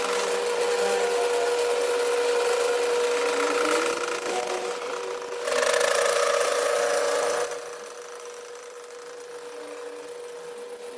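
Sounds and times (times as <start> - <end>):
power tool humming: 0.0 - 10.9.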